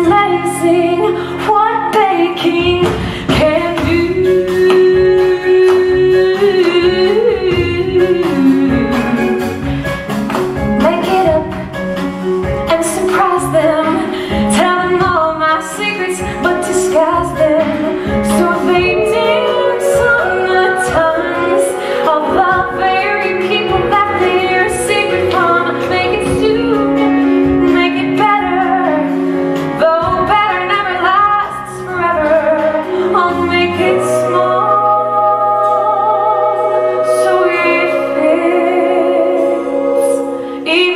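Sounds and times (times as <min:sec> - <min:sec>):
woman singing: 0:00.0 - 0:09.6, 0:10.8 - 0:11.7, 0:12.7 - 0:40.9
band accompaniment with steady beat: 0:00.0 - 0:40.9.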